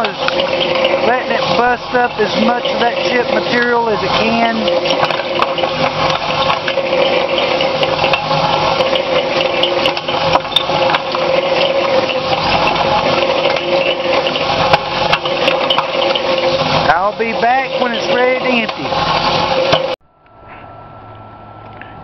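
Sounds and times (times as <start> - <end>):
mixer drive mechanical hum: 0.0 - 22.0.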